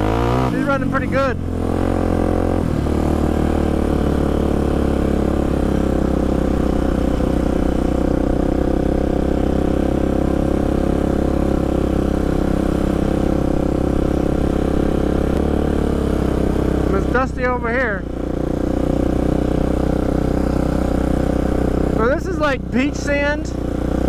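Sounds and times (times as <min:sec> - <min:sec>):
quad engine at high revs: 0:00.0 - 0:24.0.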